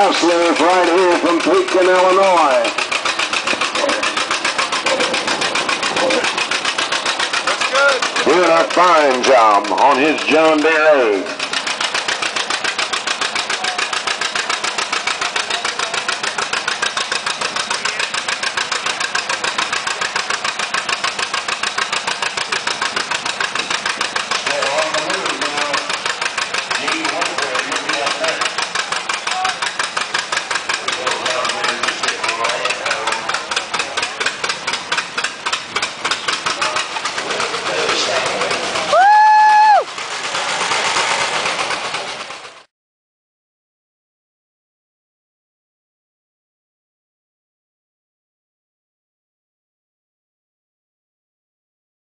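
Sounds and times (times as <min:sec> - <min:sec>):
tractor engine under load: 0:00.0 - 0:42.7.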